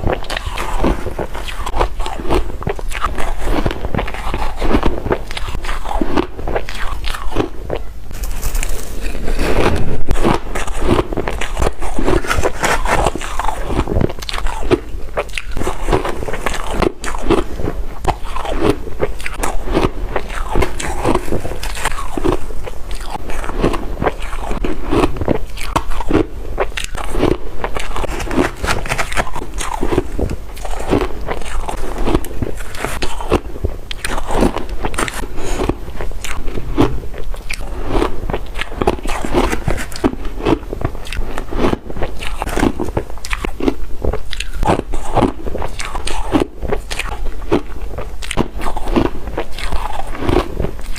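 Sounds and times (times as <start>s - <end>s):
ice crunching while chewed: 0.0s - 50.9s.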